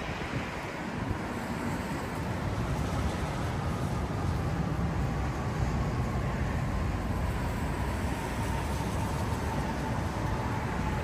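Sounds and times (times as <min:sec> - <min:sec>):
faint high whine: 0:00.0 - 0:11.0
street traffic rumble: 0:00.0 - 0:11.0.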